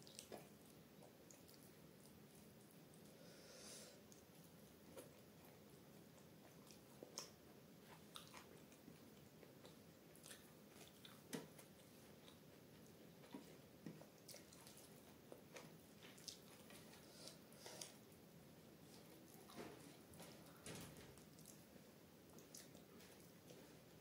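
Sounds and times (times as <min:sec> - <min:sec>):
person chewing soft food: 0:00.0 - 0:24.0.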